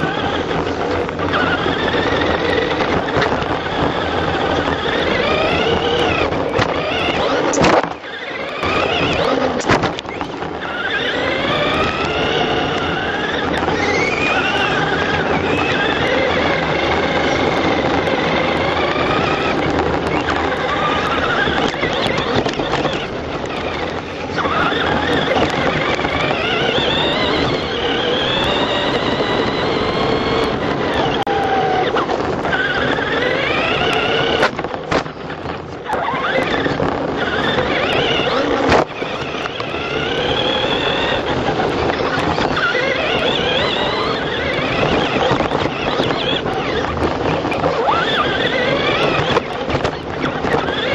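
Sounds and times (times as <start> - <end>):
electric motor whining: 0.0 - 50.9
tyres on dirt: 0.0 - 50.9.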